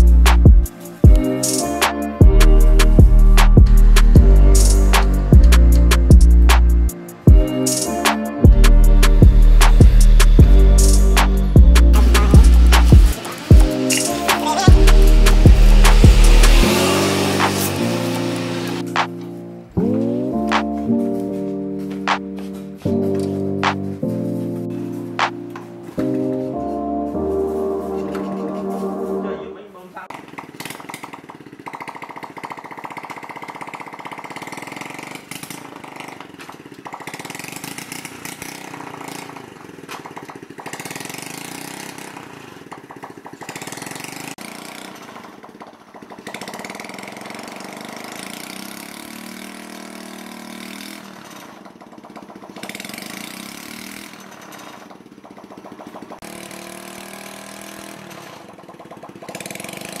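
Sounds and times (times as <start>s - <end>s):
small motorcycle engine revving: 0.0s - 60.0s.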